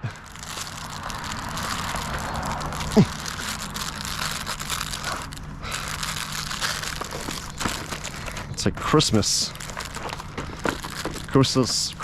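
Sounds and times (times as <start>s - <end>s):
packaging rustling and crackling: 0.0s - 12.0s.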